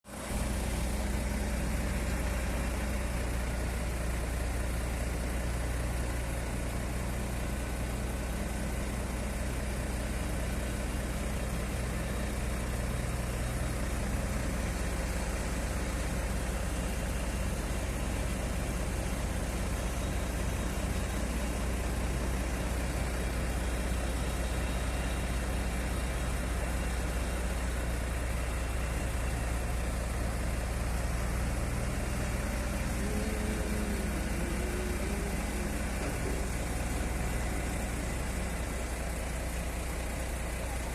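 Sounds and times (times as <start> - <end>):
heavy engine idling: 0.1 - 40.9.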